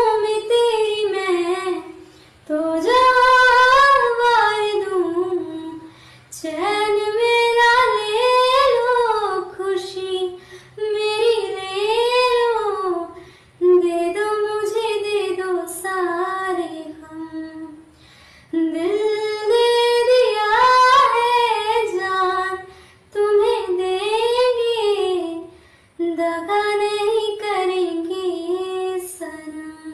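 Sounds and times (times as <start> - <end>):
woman singing slow melody: 0.0 - 29.9.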